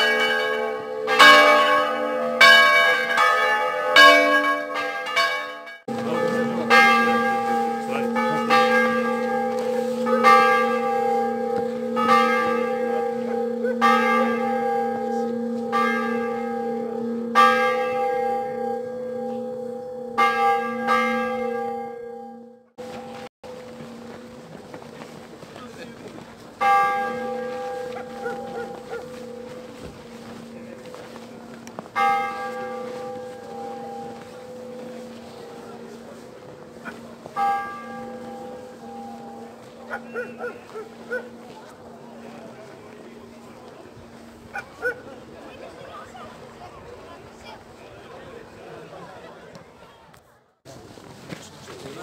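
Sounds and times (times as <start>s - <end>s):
church bells ringing: 0.0s - 47.8s.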